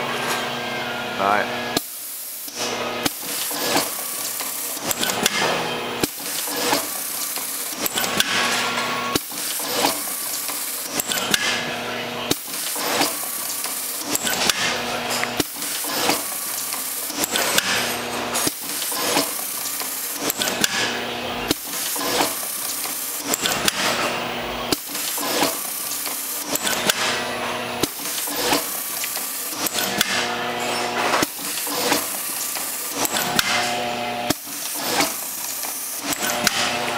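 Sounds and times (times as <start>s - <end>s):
sharp mechanical clicks and clacks: 1.8s - 11.7s, 12.3s - 36.9s.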